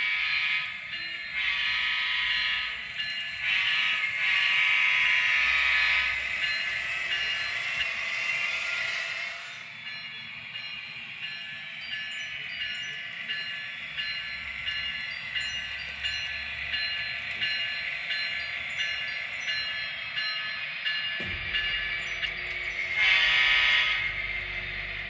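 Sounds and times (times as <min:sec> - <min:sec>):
model locomotive bell ringing: 0:00.0 - 0:25.0.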